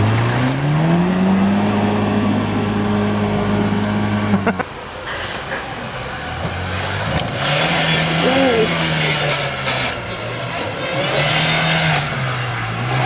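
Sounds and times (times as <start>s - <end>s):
engine droning at steady revs: 0.0s - 13.0s
outdoor noise: 0.0s - 13.0s.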